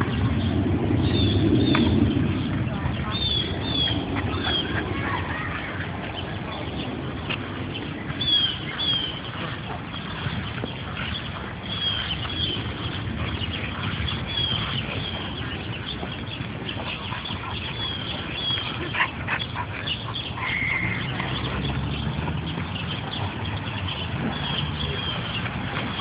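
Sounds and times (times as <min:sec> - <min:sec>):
dogs playing: 0:01.1 - 0:26.0.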